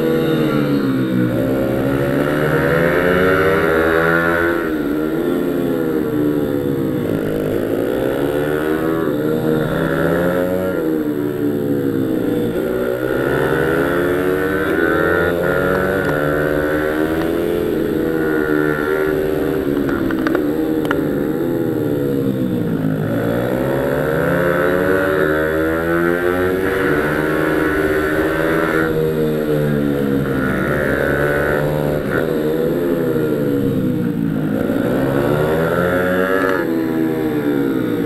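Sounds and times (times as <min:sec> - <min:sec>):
pit bike engine revving: 0:00.0 - 0:38.0.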